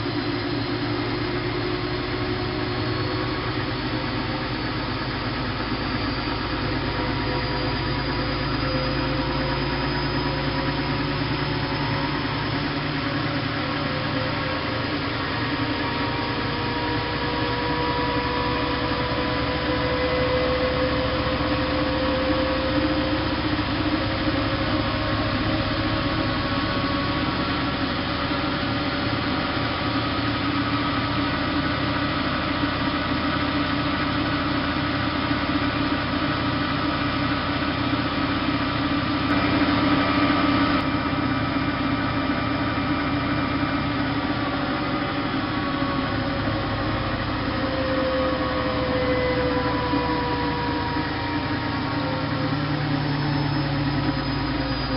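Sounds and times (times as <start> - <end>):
washing machine motor whining: 0.0 - 54.9.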